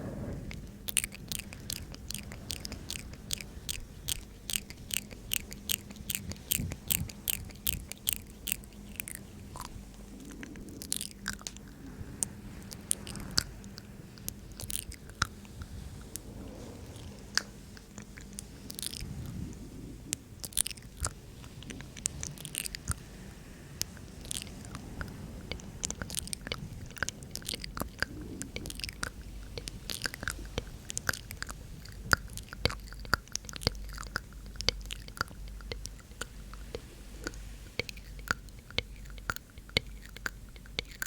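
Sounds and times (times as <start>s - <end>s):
soft breathy sounds: 0.0s - 41.0s
wet mouth and tongue clicks: 0.5s - 16.2s, 17.0s - 19.1s, 20.1s - 23.0s, 23.8s - 41.0s.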